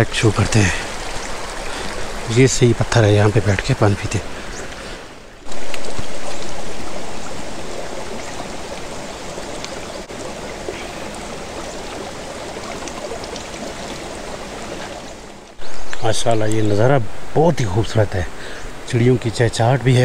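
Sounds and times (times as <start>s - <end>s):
stream trickling over rocks: 0.0s - 20.0s.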